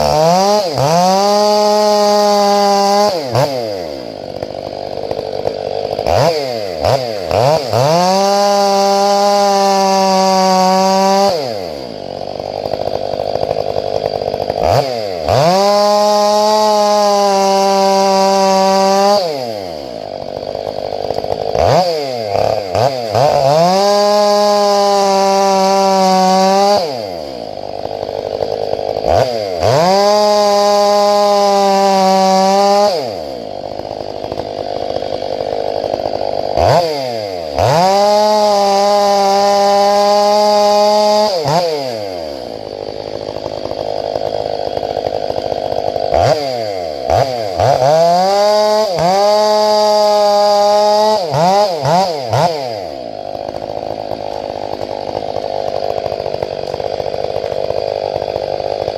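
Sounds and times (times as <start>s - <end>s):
chainsaw revving and idling: 0.0s - 58.9s.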